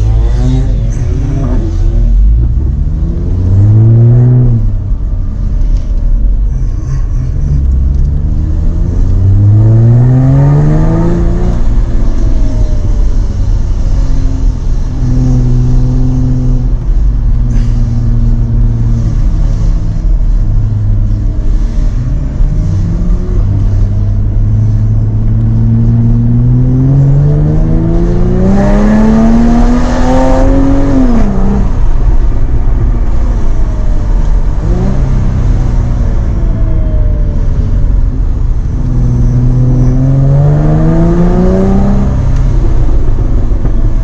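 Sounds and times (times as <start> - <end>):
low road rumble: 0.0 - 44.0
sports car engine accelerating: 0.0 - 44.0.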